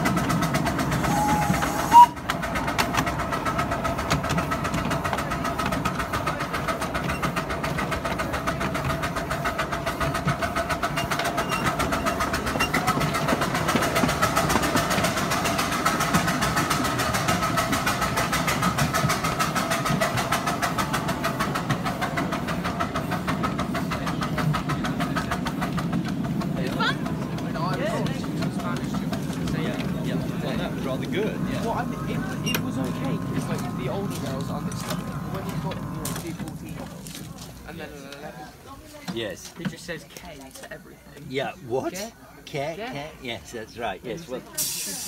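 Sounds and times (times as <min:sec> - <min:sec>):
miniature steam train clattering: 0:00.0 - 0:45.0.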